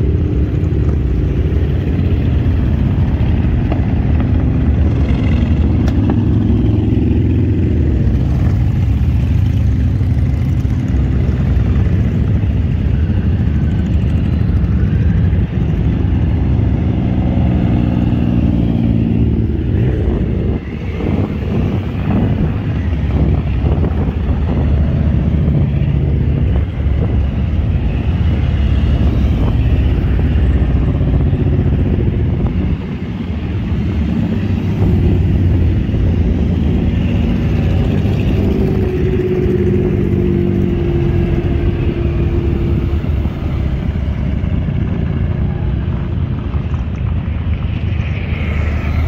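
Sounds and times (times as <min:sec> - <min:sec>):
engine passing by: 0:00.0 - 0:49.0
motorcycles and cars driving past: 0:00.0 - 0:49.0.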